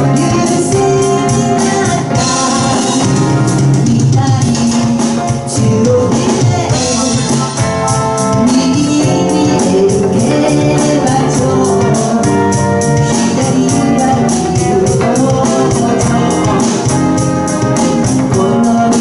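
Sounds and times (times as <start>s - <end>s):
bass and drums: 0.0s - 19.0s
high percussion beat: 0.0s - 19.0s
organ keyboard: 0.0s - 19.0s.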